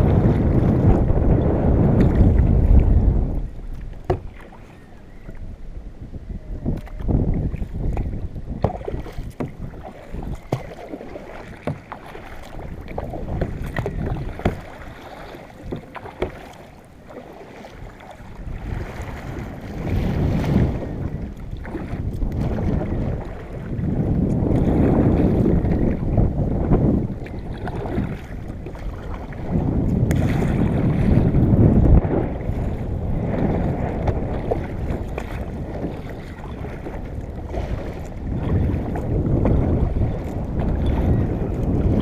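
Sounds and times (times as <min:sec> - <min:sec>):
water sloshing against hull: 0:00.0 - 0:42.0
wind buffeting microphone: 0:00.0 - 0:42.0.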